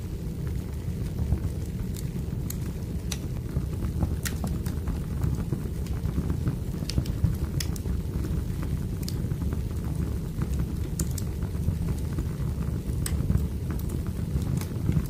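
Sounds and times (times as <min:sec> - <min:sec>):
low rumble of burning logs: 0:00.0 - 0:15.0
wood fire pops and snaps: 0:00.1 - 0:15.0.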